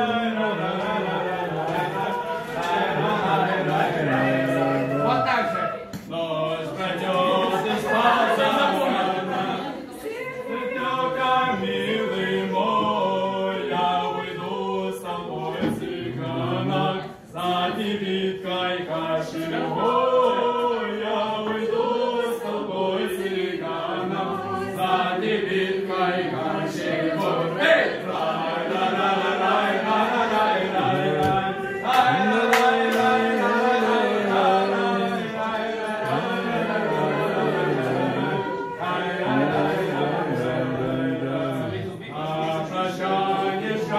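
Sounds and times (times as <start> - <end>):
voices singing together: 0.0 - 43.9.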